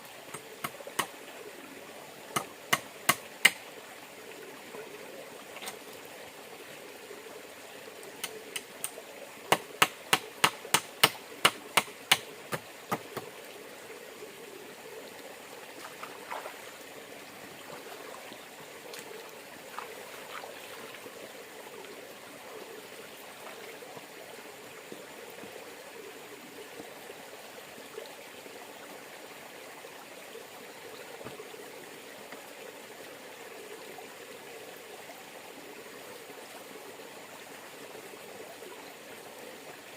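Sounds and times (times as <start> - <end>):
river running: 0.0 - 39.9.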